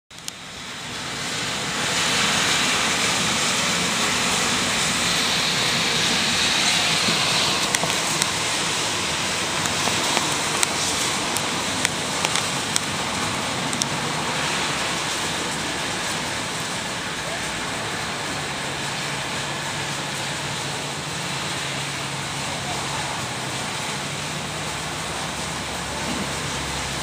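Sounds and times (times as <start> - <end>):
heavy rain: 0.1 - 27.0.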